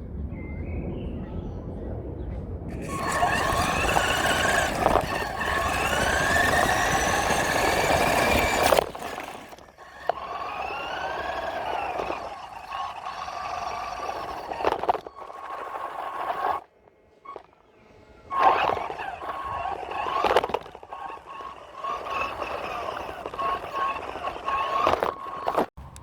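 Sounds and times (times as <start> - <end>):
toy truck motor whining: 2.7 - 26.0.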